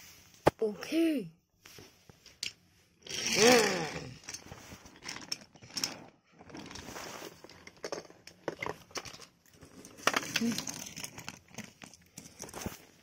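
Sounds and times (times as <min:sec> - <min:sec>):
toy trains rattling on wooden track: 0:02.4 - 0:13.0.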